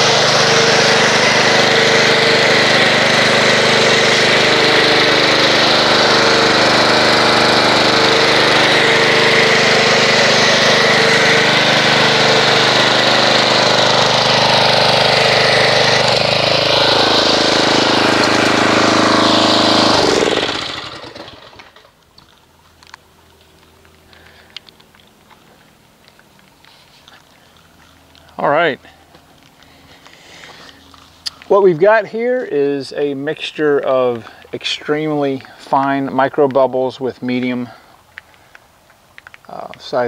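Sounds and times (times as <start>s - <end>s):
pressure washer hum: 0.0s - 36.4s.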